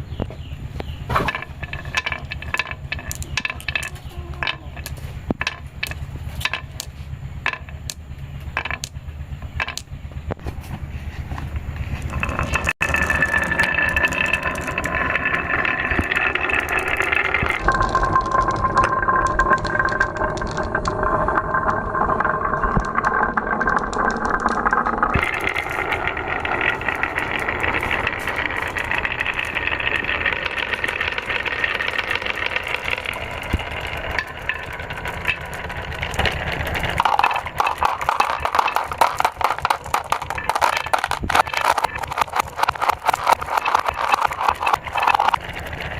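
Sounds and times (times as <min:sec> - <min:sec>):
balls rattling down a marble run: 0:00.0 - 0:10.4, 0:11.3 - 0:45.9.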